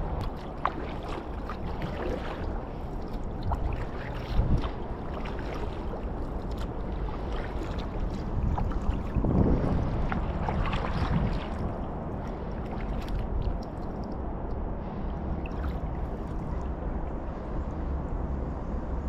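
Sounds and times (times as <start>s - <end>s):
water dripping and splashing: 0.0s - 14.6s, 15.4s - 16.8s
paddle pulling through water: 0.0s - 17.4s.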